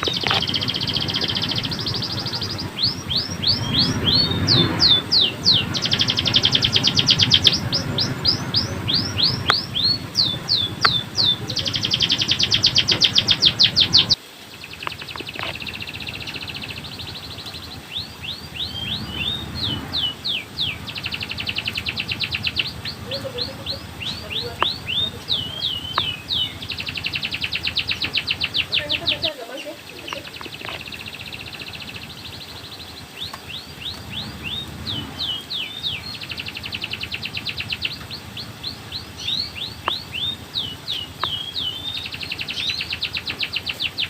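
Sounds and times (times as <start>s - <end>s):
canary singing trills: 0.0s - 44.0s.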